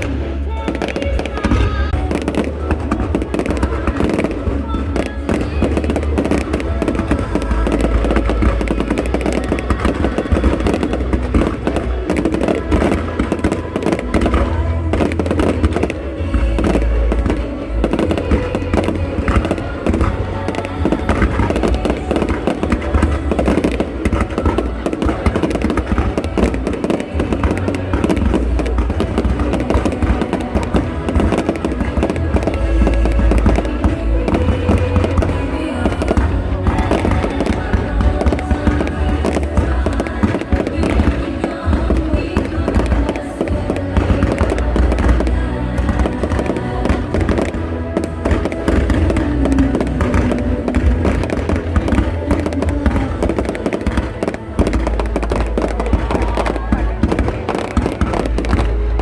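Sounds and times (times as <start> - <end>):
fireworks booming and crackling: 0.0 - 59.0
music playing: 0.0 - 59.0.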